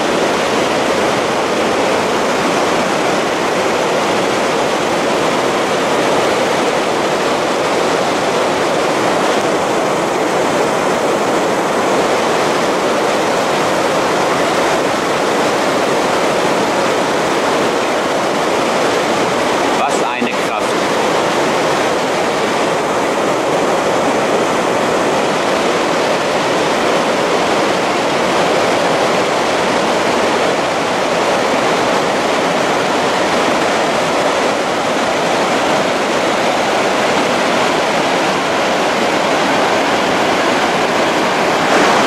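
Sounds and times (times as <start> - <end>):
river rushing over boulders: 0.0 - 42.0
waterfall rushing: 0.0 - 42.0.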